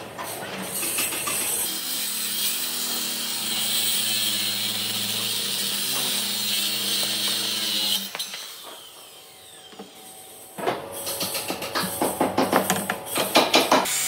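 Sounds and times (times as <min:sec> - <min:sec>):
circular saw cutting wood: 0:00.3 - 0:14.0.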